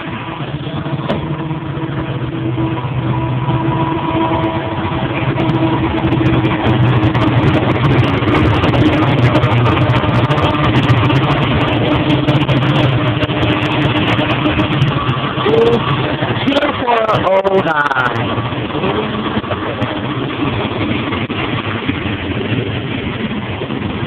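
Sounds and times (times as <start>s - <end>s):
diesel locomotive engines droning: 0.0s - 24.0s.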